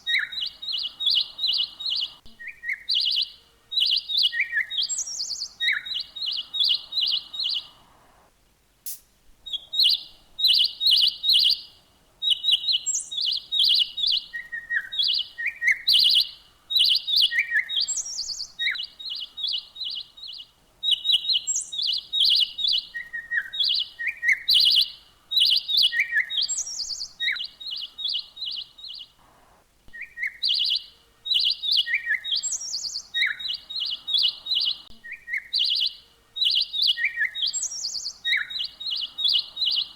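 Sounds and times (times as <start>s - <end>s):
small birds chirping: 0.0s - 8.3s, 8.9s - 39.9s.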